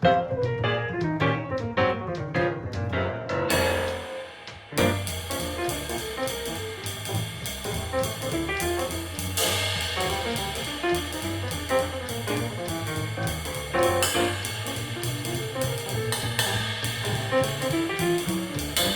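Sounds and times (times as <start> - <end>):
drum kit: 0.0 - 18.9
jazz backing music: 0.0 - 18.9
ride cymbal jazz pattern: 3.5 - 18.9.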